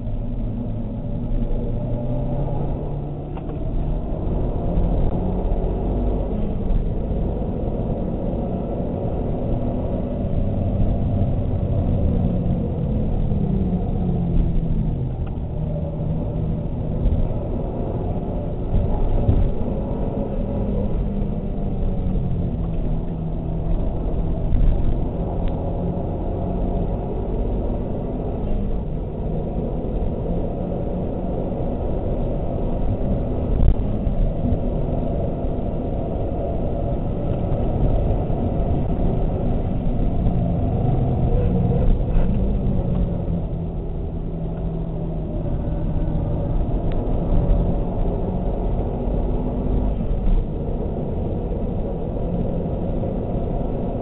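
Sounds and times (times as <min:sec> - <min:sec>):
car engine running under load: 0:00.0 - 0:54.0
road and wind rumble: 0:00.0 - 0:54.0.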